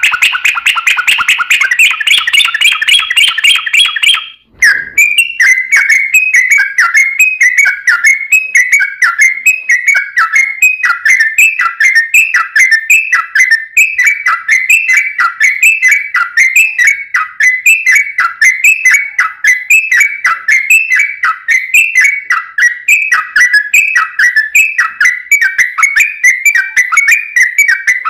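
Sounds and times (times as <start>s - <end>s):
bulbul singing whistled notes: 0.0s - 28.0s.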